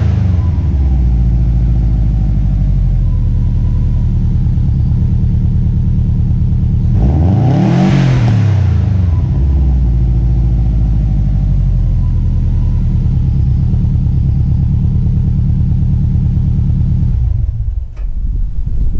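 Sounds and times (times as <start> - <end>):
car engine idling and revving: 0.0 - 18.9.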